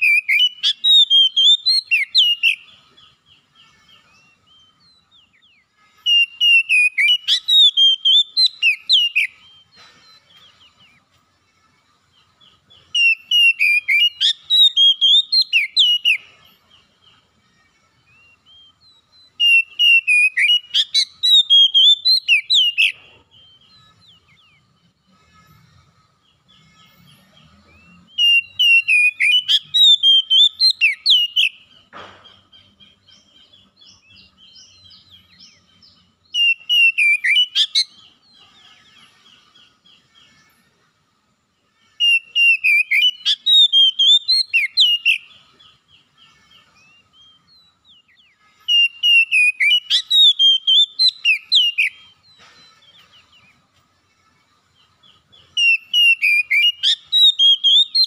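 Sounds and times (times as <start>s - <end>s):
bird whistling song: 0.0s - 11.2s, 12.1s - 17.2s, 18.0s - 40.2s, 42.0s - 53.8s, 54.7s - 58.0s.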